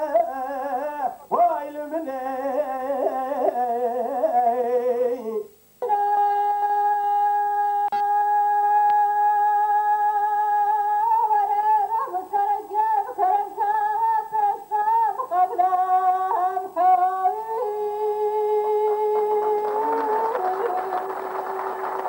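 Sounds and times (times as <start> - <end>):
woman singing unaccompanied: 0.0 - 22.0.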